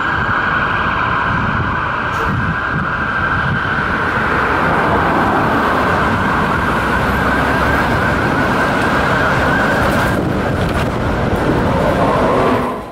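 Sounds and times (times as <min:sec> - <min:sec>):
fire engine siren warbling: 0:00.0 - 0:12.9
traffic rumble: 0:00.0 - 0:12.9.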